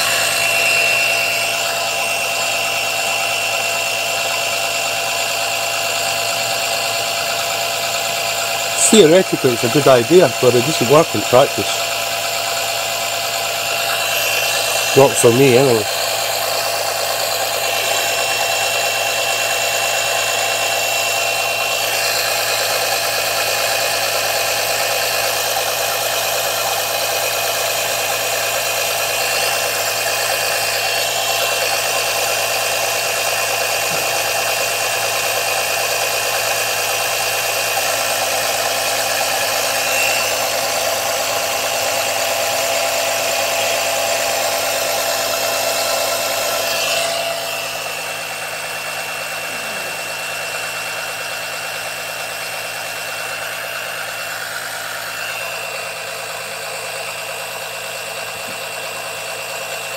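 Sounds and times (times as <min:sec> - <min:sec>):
electric pump whining: 0:00.0 - 0:59.9.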